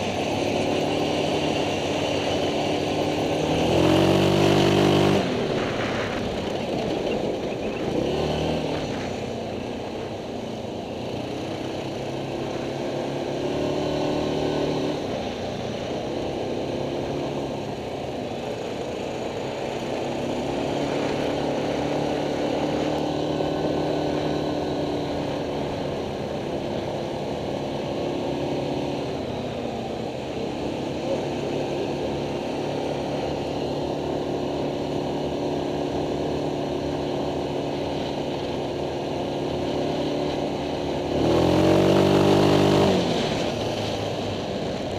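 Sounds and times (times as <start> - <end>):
quad bike engine revving: 0.0 - 44.9.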